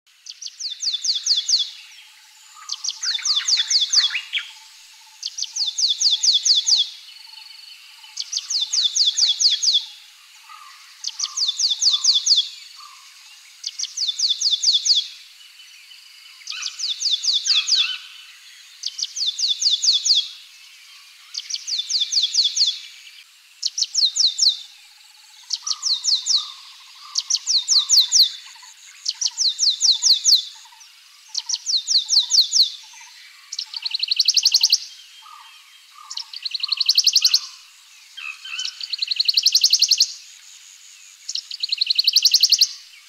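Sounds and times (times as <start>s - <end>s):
songbird singing: 0.1s - 43.0s
faint bird calls: 0.3s - 15.2s, 16.3s - 23.0s, 23.6s - 40.2s.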